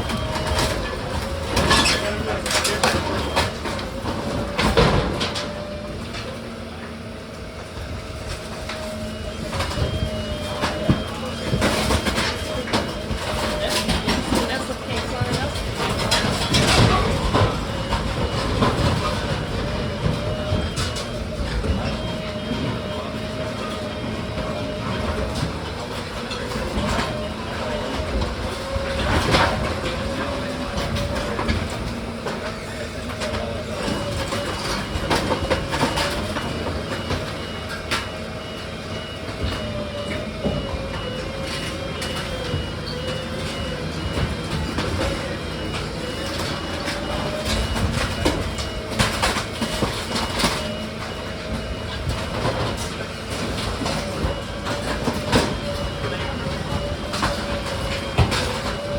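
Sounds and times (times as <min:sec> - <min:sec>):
heavy machinery running: 0:00.0 - 0:58.9
machine whine: 0:00.0 - 0:58.9
knocks and clanks: 0:08.7 - 0:58.9.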